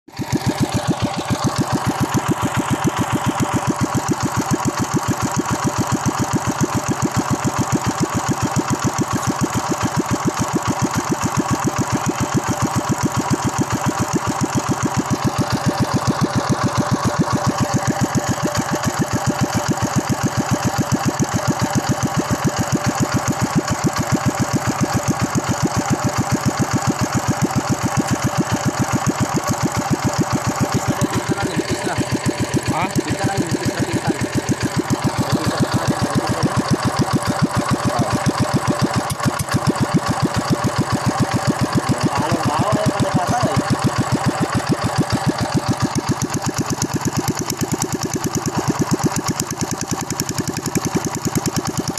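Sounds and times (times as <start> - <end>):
small engine idling: 0.0 - 51.9.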